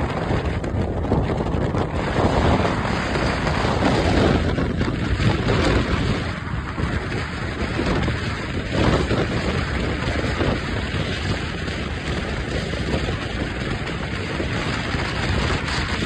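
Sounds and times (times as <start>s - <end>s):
car road noise at highway speed: 0.0s - 16.0s
wind buffeting microphone: 0.0s - 16.0s.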